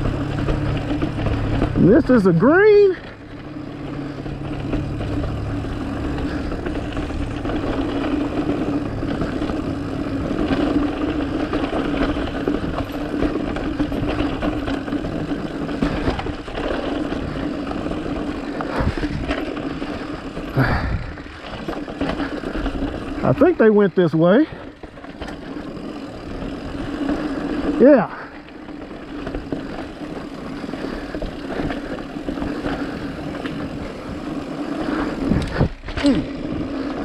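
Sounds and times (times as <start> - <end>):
bike knocking over bumps: 0.0 - 23.6, 24.4 - 37.0
bike tire noise on dirt: 0.0 - 37.0.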